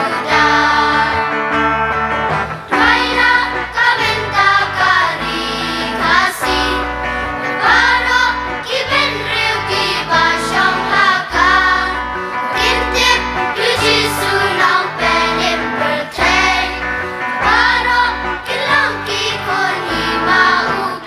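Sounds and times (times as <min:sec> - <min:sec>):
instrumental accompaniment: 0:00.0 - 0:21.0
voices singing: 0:00.0 - 0:21.0.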